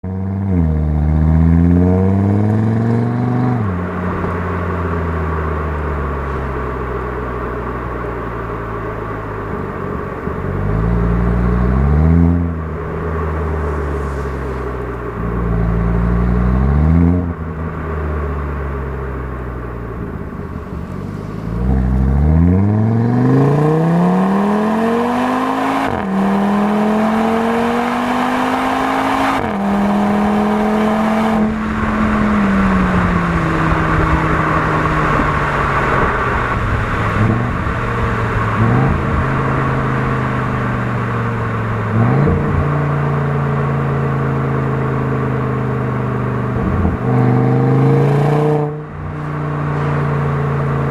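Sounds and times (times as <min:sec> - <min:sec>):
car engine accelerating hard: 0:00.0 - 0:50.9.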